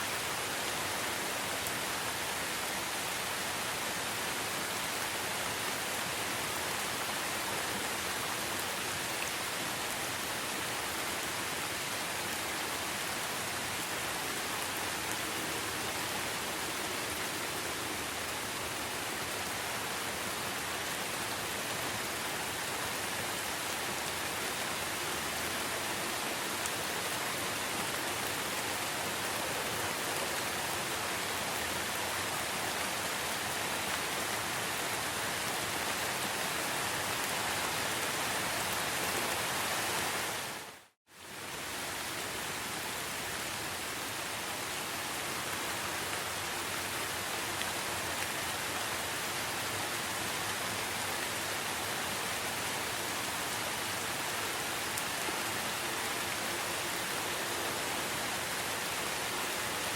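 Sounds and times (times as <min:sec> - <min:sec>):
steady rain in a forest: 0:00.0 - 0:59.9.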